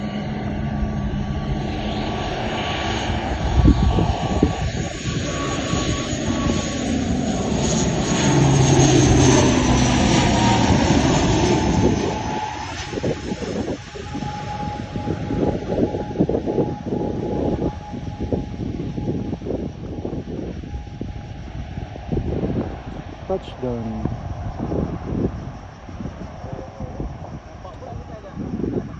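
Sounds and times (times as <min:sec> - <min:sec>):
turboprop engines whining: 0:00.0 - 0:28.9.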